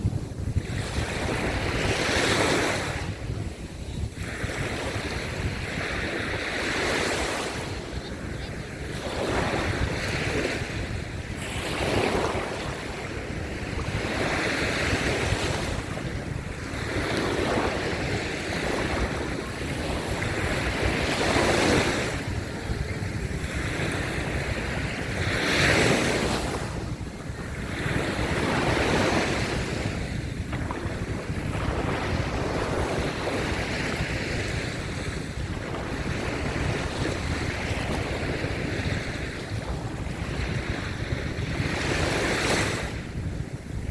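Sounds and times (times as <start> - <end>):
small waves breaking on beach: 0.0 - 43.9
wind rumble on microphone: 0.0 - 43.9.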